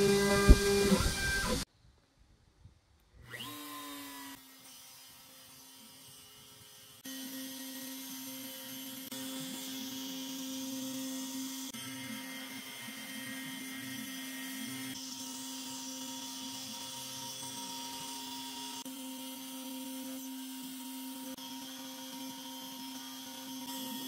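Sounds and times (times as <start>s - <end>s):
end mill cutting wood: 0.0s - 1.7s, 3.3s - 24.0s
router spinning: 0.0s - 1.7s, 3.2s - 24.0s.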